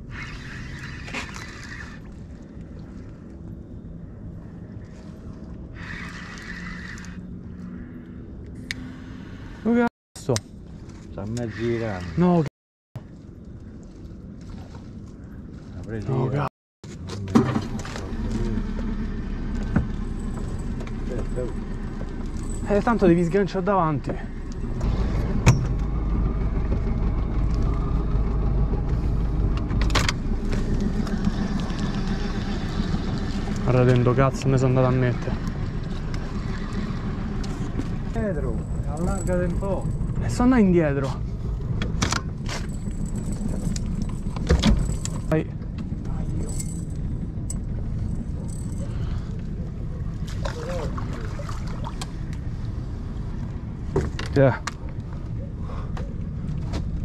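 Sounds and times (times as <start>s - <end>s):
boat engine rumble: 0.0s - 57.0s.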